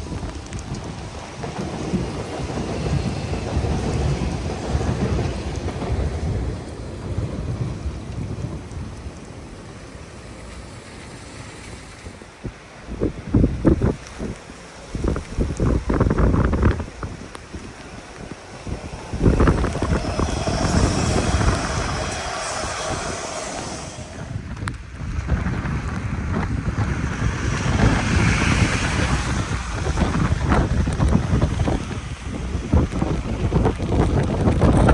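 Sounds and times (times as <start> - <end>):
rain hissing: 0.0 - 34.9
wind buffeting the microphone: 0.0 - 34.9.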